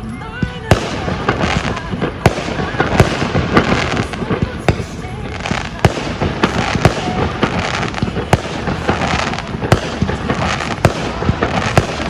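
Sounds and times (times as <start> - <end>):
fireworks crackling: 0.0 - 12.0
firework shells bursting with bangs: 0.6 - 12.0.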